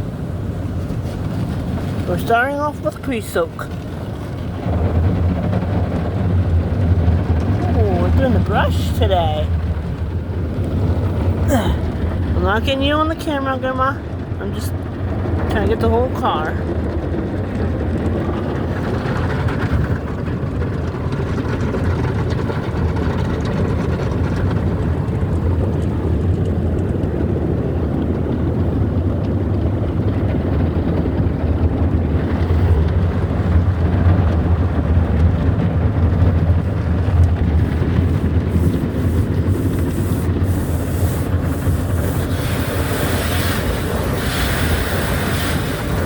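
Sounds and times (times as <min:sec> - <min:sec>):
car wash brushes rumbling: 0:00.0 - 0:46.0.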